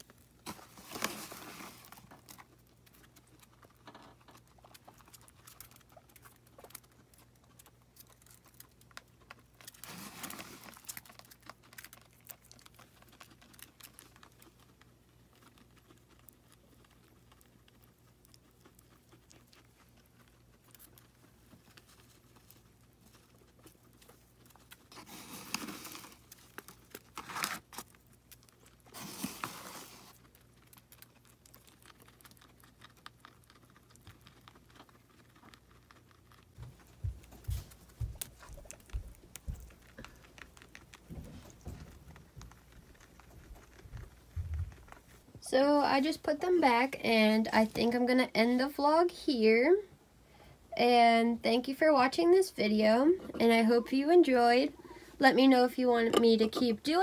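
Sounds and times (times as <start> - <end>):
rustling: 0.0 - 48.8
guinea pigs clicking and pattering: 0.0 - 49.9, 50.8 - 57.0.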